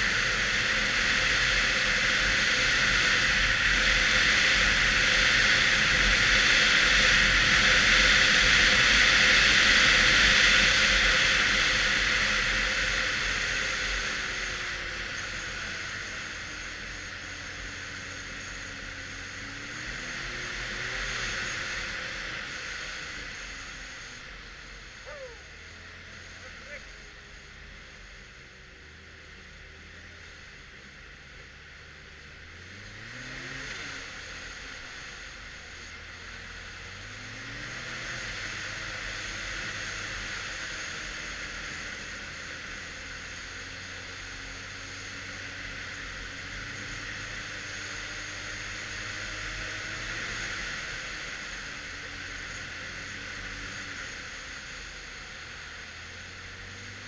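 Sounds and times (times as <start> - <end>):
snowmobile engine revving: 0.0 - 29.2, 30.1 - 57.0.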